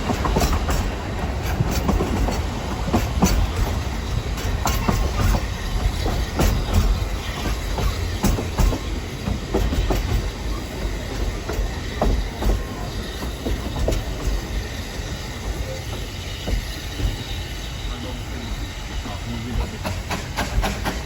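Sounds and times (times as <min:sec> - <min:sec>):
train rumbling on track: 0:00.0 - 0:21.0
wheels clicking on rails: 0:00.0 - 0:21.0.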